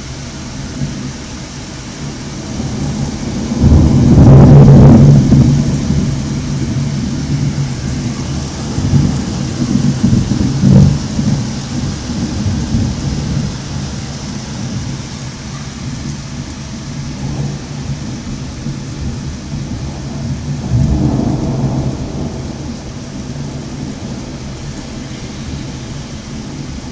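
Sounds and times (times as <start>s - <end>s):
steady rain: 0.0s - 26.9s
thunder rumbling: 0.0s - 26.9s.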